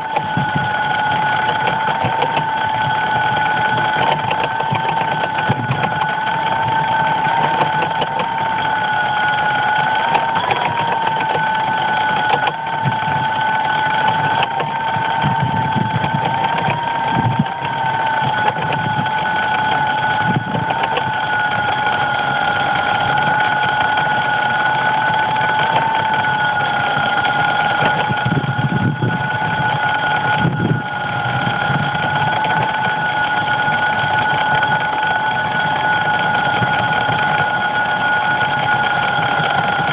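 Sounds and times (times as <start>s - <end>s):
two-tone electrical whine: 0.0s - 39.9s.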